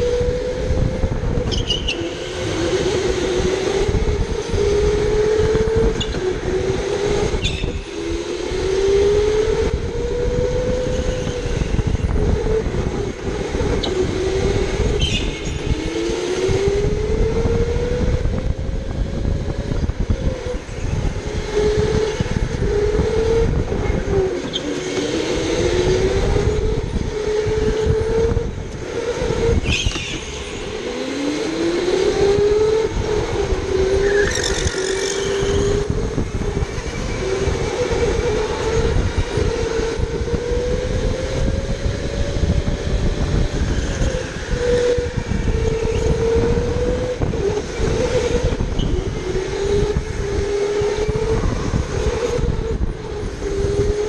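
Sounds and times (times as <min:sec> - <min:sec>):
electric go-kart motor whining: 0:00.0 - 0:54.0.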